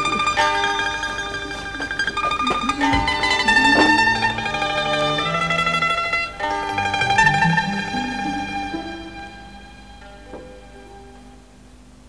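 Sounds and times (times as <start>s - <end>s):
plucked string instrument melody: 0.0s - 11.7s.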